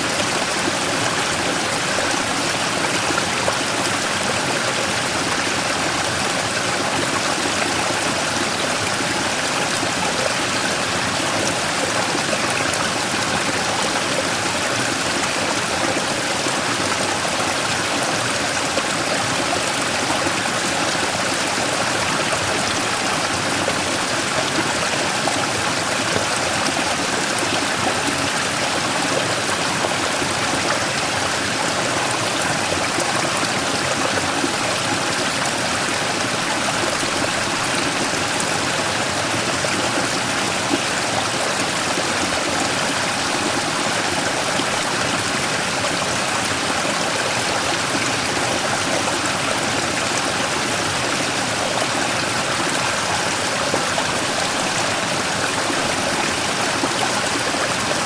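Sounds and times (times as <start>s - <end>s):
stream running over rock: 0.0s - 58.0s.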